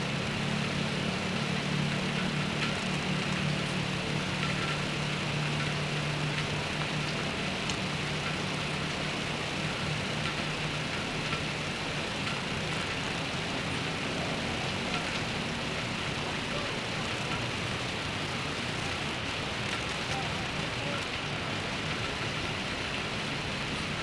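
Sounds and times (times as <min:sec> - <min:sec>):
steady rain: 0:00.0 - 0:24.0
traffic engine hum: 0:00.0 - 0:24.0.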